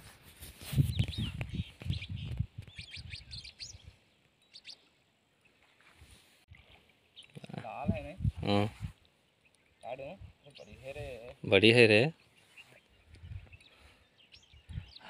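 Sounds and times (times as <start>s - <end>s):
small birds chirping: 0.7s - 5.9s, 6.6s - 15.0s.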